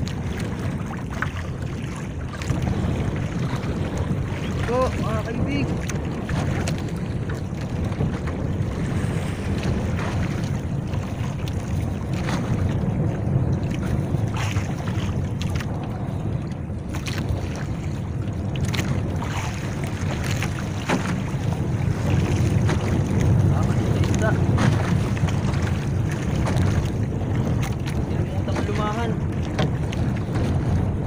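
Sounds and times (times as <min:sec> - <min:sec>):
water sloshing against boat hull: 0:00.0 - 0:31.0
water splashes: 0:00.0 - 0:31.0
wind rumbling on microphone: 0:00.0 - 0:31.0.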